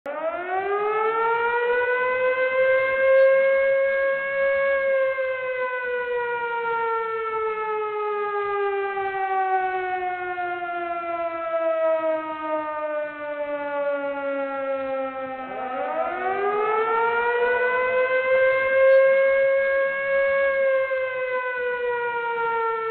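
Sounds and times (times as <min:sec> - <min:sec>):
wailing siren: 0:00.0 - 0:22.9.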